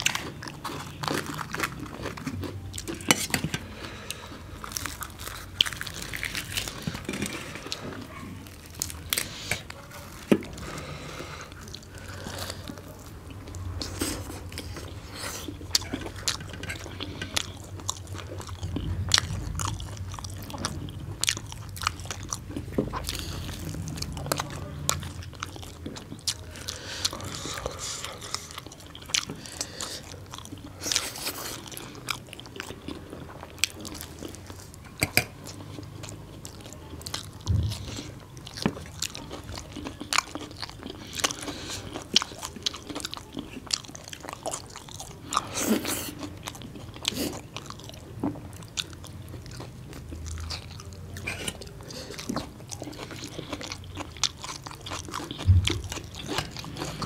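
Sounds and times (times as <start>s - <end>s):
people chewing and smacking: 0.0s - 57.0s.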